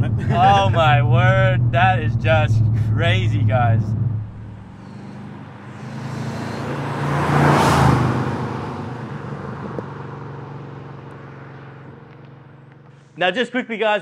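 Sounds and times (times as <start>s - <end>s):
car engine driving past: 0.0s - 13.2s.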